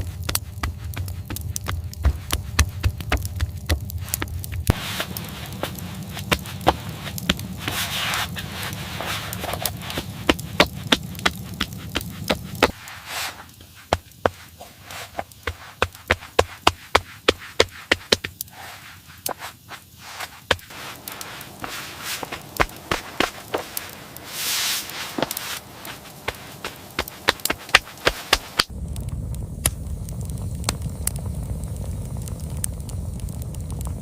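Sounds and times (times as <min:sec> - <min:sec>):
low steady rumble: 0:00.0 - 0:17.7, 0:18.5 - 0:34.0.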